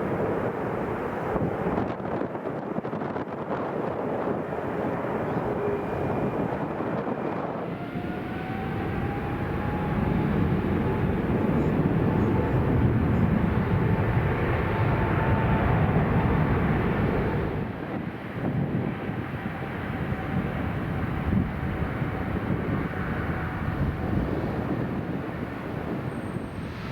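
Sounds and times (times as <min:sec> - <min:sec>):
jet airliner landing: 0:00.0 - 0:26.9
jet engines at takeoff power: 0:00.0 - 0:26.9
rising engine whine: 0:04.3 - 0:26.9.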